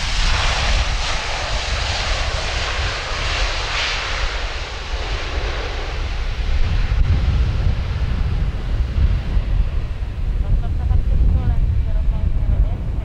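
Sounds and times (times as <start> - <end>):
jet engines roaring: 0.0 - 13.0
wind rumble on microphone: 0.0 - 13.0.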